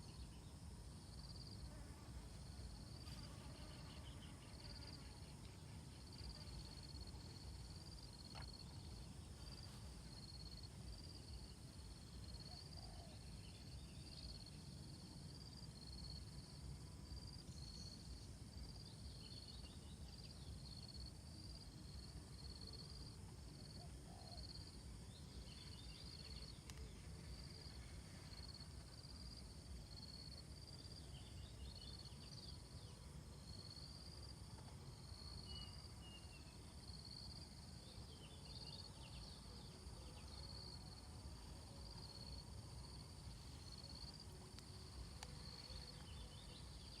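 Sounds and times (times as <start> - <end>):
insects chirping: 0.0 - 47.0
steady high insect whine: 0.0 - 47.0.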